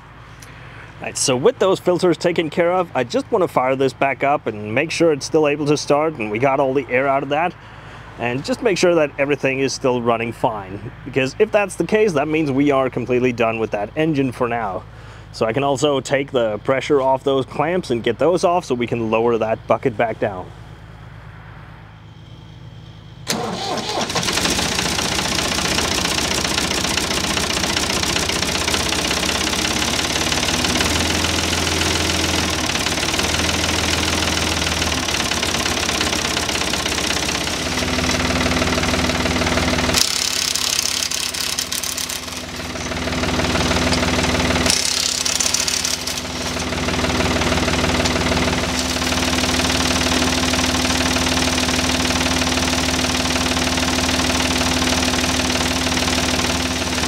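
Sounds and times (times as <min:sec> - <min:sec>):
diesel engine starting and running: 0:00.0 - 0:57.0.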